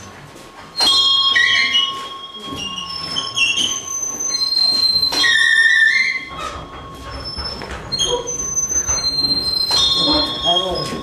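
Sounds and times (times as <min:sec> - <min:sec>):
prayer wheel squealing: 0:00.7 - 0:11.0.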